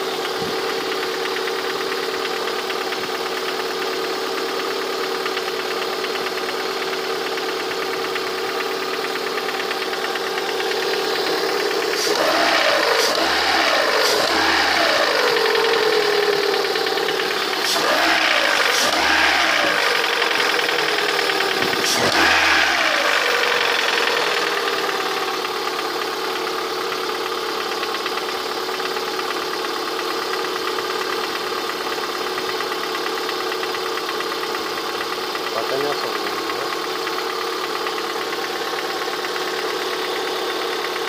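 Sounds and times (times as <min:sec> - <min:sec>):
car engine revving and idling: 0:00.0 - 0:41.0
engine knocking: 0:00.0 - 0:41.0.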